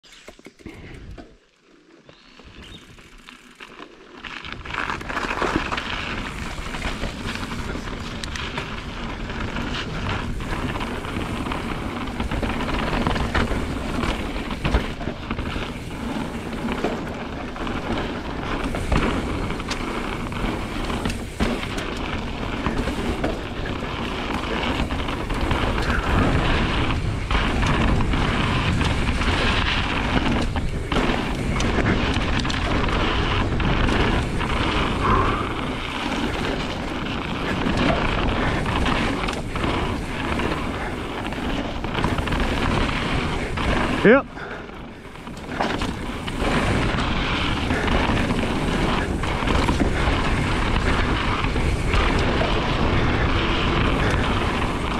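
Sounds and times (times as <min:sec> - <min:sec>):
bike tyres rumbling on rough ground: 0:00.1 - 0:54.9
bike knocks and clatters: 0:04.7 - 0:44.2, 0:44.9 - 0:54.9
wind buffeting microphone: 0:05.7 - 0:54.9.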